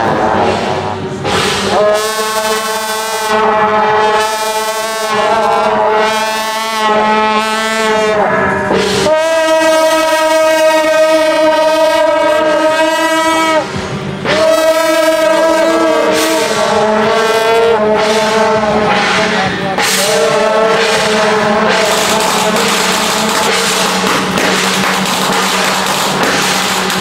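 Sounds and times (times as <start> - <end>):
steady low drone: 0.0 - 27.0
wind instrument long held notes: 0.0 - 27.0.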